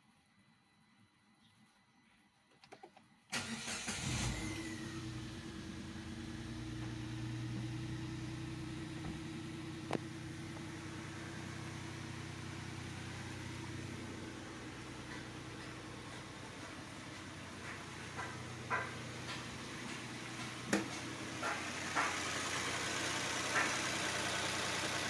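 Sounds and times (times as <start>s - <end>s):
car engine starting and idling: 3.3s - 25.0s.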